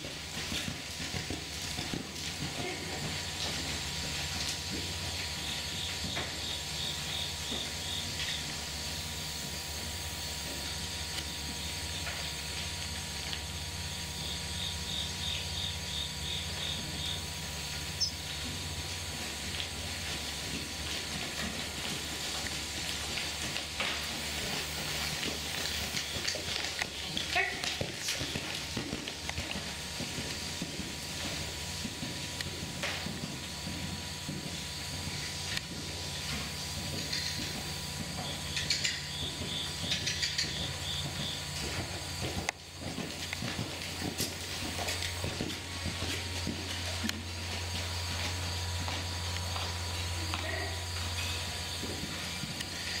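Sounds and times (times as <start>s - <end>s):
horse hooves thudding on sand: 0.0s - 53.0s
steady hiss and low hum: 0.0s - 53.0s.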